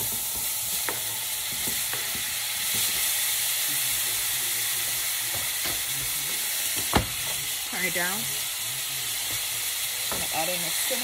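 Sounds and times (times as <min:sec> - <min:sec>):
fruit sizzling in butter: 0:00.0 - 0:11.0.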